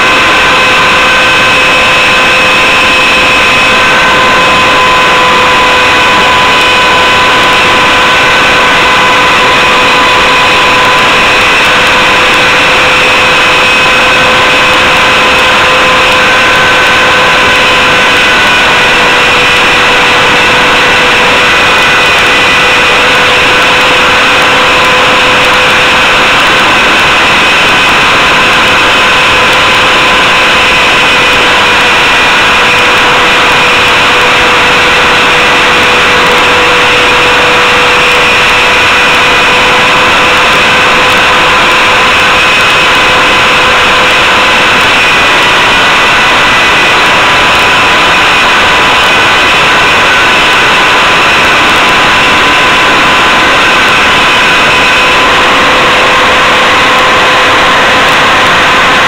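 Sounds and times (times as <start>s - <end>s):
helicopter motor whine: 0.0s - 59.0s
rotor rushing noise: 0.0s - 59.0s.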